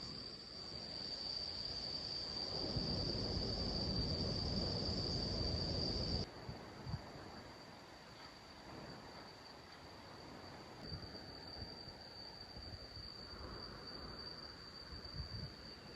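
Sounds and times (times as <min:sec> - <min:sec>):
insects trilling: 0:00.0 - 0:06.3, 0:07.3 - 0:15.9.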